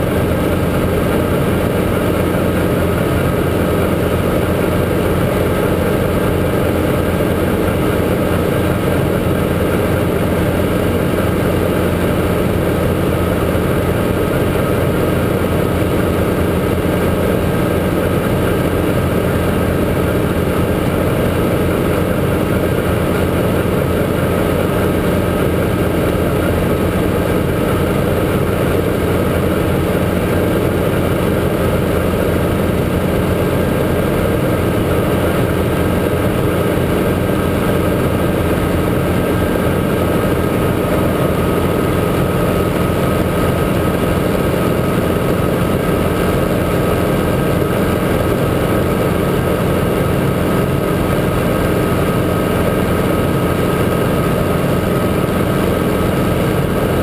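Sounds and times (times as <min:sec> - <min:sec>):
helicopter engine and rotors drone: 0:00.0 - 0:57.0.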